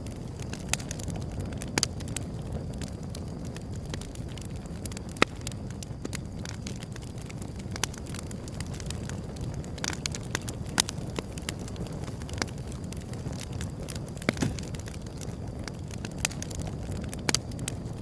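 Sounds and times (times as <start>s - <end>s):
fire crackling and popping: 0.0s - 18.0s
wood fire rumbling: 0.0s - 18.0s.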